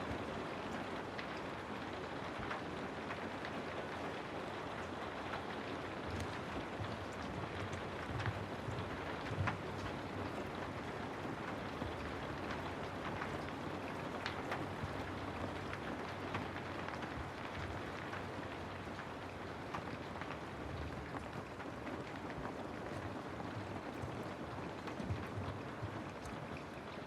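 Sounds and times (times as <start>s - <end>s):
raindrops tapping: 0.0s - 27.0s
steady rainfall: 0.0s - 27.0s.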